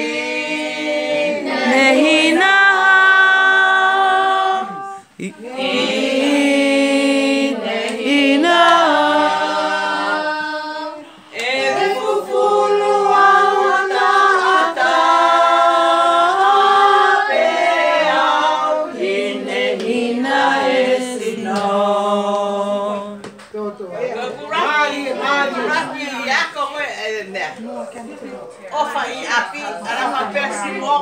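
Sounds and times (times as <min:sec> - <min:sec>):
group singing a cappella: 0:00.0 - 0:23.4, 0:24.2 - 0:26.4.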